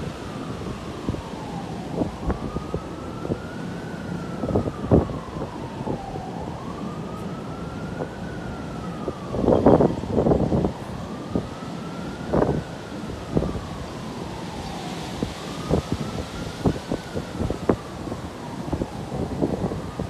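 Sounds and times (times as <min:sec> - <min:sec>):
emergency vehicle siren wailing: 0:00.0 - 0:20.0
wind gusts buffeting microphone: 0:00.0 - 0:20.0.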